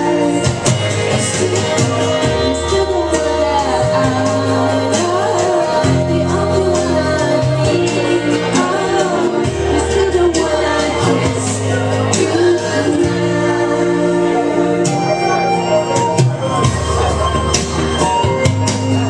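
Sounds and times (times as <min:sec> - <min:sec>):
woman singing into a microphone: 0:00.0 - 0:16.0
instrumental accompaniment with bass: 0:00.0 - 0:19.0.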